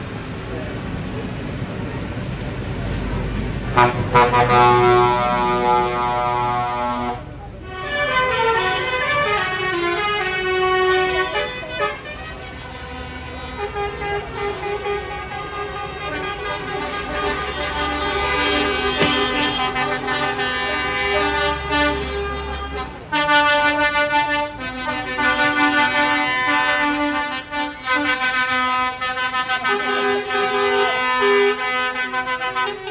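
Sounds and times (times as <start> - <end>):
low engine rumble: 0.0 - 32.7
tractor horns sounding: 2.6 - 32.9.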